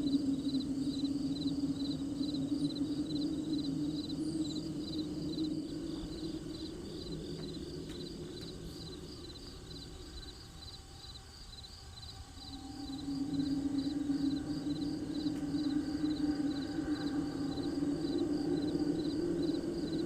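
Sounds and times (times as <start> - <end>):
crickets chirping: 0.0 - 20.0
low steady drone: 0.0 - 20.0.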